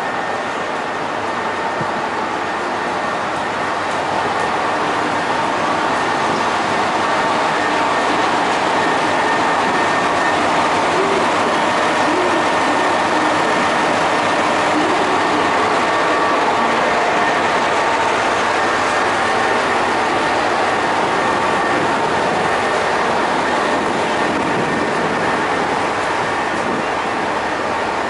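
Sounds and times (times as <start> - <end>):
diesel railcar engine and rolling: 0.0 - 28.0.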